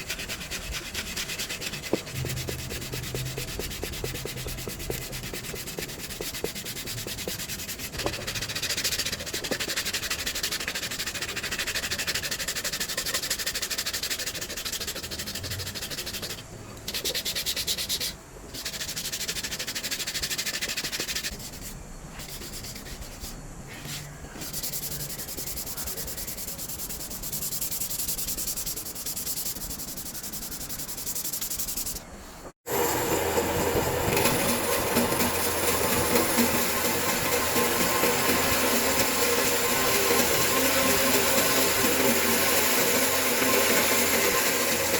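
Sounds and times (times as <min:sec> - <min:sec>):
wood being sanded: 0:00.0 - 0:23.4, 0:24.4 - 0:32.0, 0:32.7 - 0:44.9.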